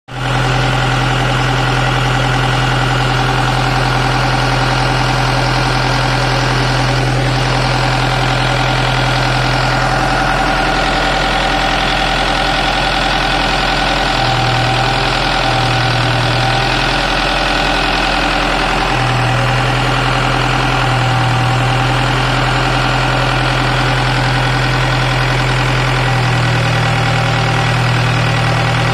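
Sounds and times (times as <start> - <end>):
diesel generator running: 0.1 - 28.9.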